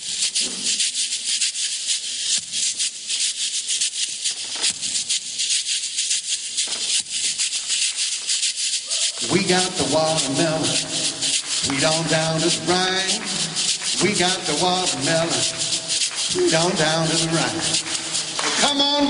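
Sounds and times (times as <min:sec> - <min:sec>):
washboard scraped rhythmically: 0:00.4 - 0:19.0.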